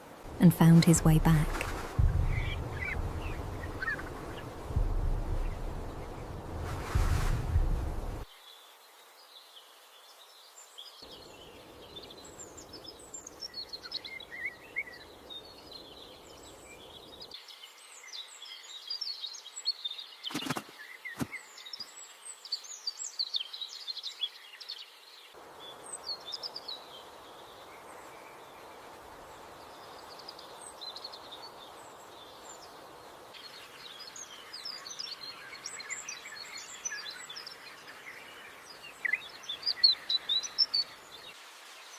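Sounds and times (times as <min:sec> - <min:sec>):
faint outdoor background noise: 0:00.0 - 0:41.9
small birds chirping: 0:00.5 - 0:41.9.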